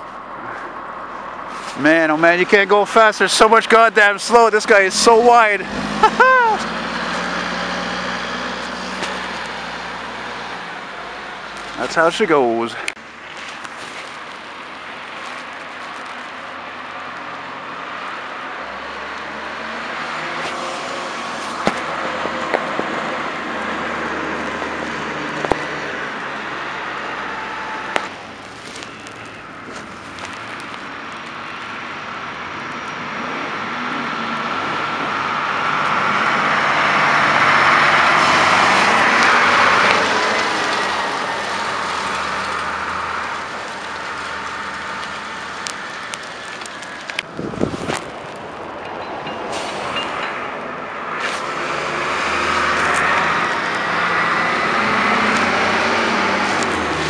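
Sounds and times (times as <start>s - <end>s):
trucks driving past on slush: 0.0s - 57.0s.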